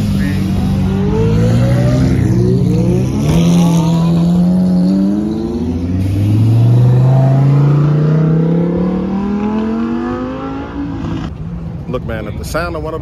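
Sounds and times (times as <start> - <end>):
sports car engines accelerating: 0.0 - 11.9.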